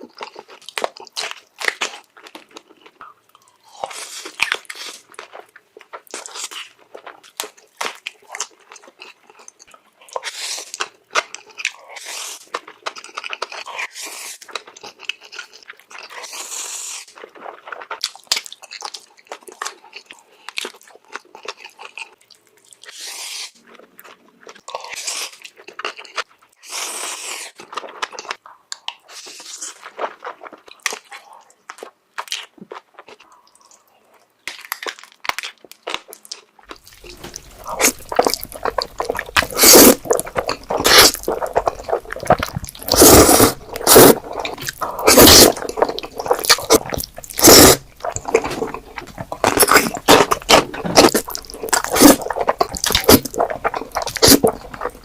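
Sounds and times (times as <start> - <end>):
wet chewing and mouth smacking: 0.0 - 26.6, 27.6 - 55.0.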